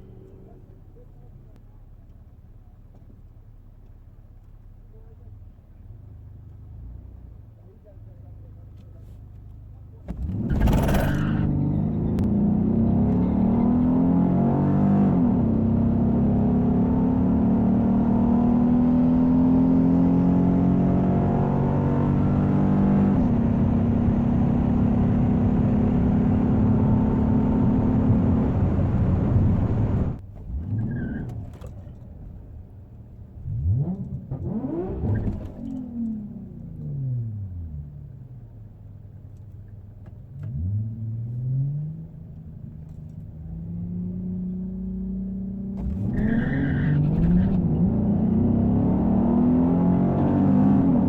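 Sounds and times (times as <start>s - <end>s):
car engine at full throttle: 9.9s - 51.0s.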